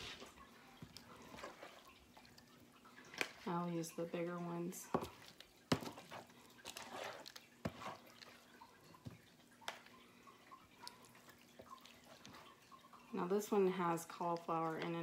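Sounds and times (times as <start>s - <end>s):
soft drip-like plops: 0.0s - 15.0s.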